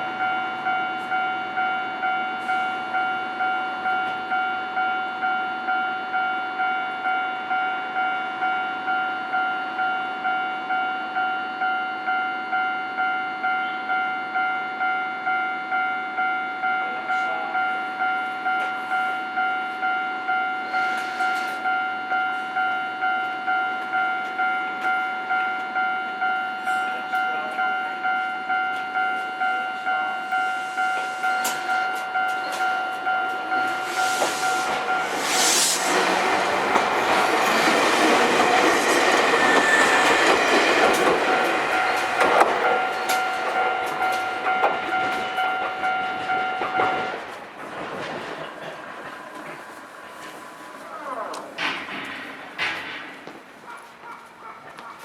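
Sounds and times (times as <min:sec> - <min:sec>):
level-crossing warning bell: 0:00.0 - 0:53.7.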